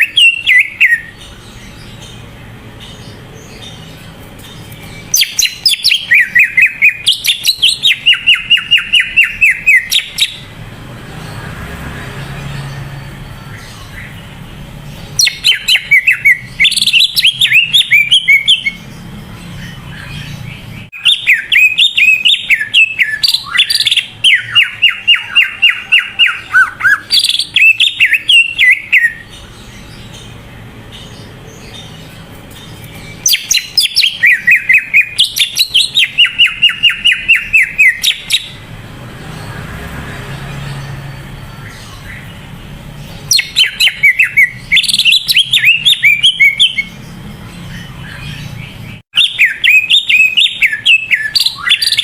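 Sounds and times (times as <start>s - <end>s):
bird singing rapid chirps and trills: 0.0s - 52.0s.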